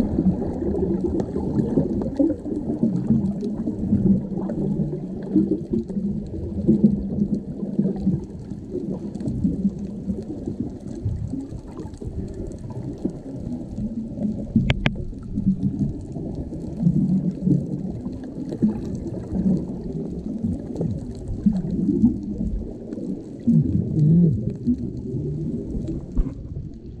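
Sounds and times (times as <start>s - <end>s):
muffled underwater rumbling: 0.0s - 27.0s.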